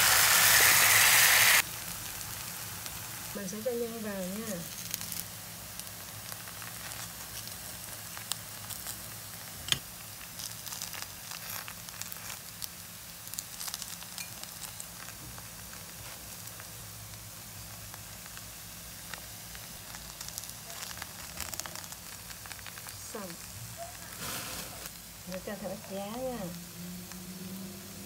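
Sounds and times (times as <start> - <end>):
oil sizzling in a frying pan: 0.0 - 28.0.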